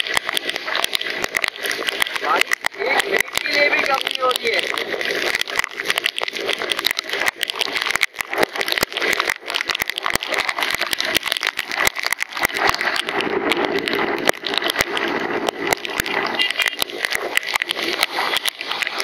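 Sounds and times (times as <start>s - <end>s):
rain drops ticking on microphone: 0.0s - 19.0s.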